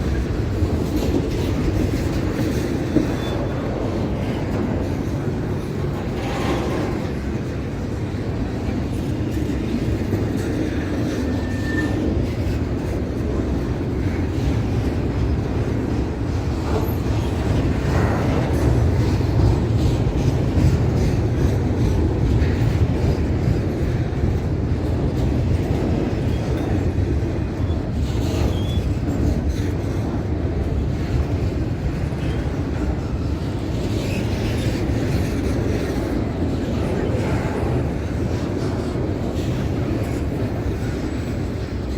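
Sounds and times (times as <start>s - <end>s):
train wheels rumbling on track: 0.0s - 41.9s.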